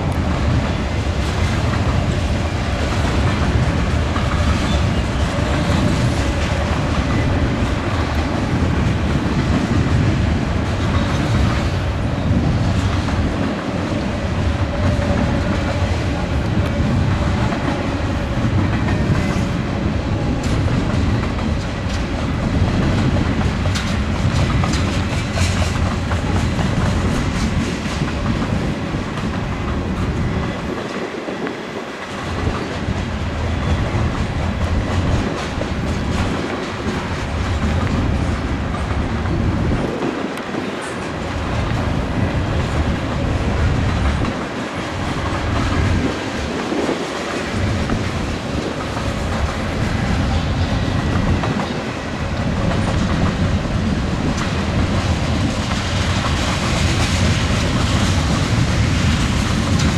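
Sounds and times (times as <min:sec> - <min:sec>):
freight train wheels rumbling: 0:00.0 - 0:59.9
wheels clacking over rail joints: 0:00.0 - 0:59.9.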